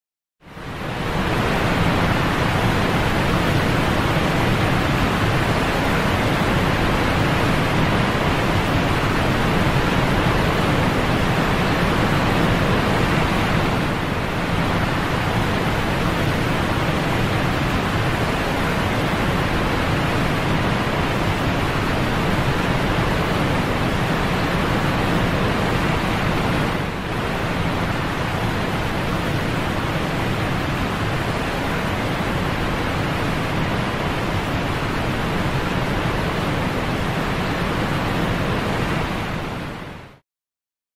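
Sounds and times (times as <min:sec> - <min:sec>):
falling water rushing: 0:00.7 - 0:39.9.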